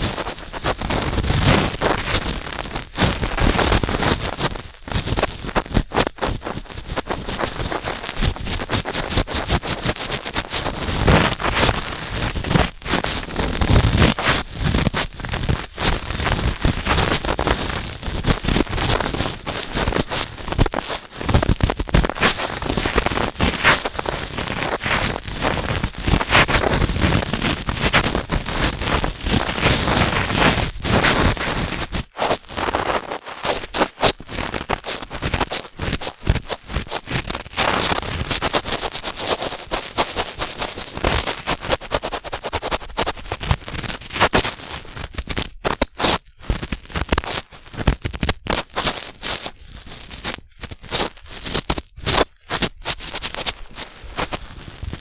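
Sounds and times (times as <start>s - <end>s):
cotton swab scratching microphone: 5.3s - 55.0s.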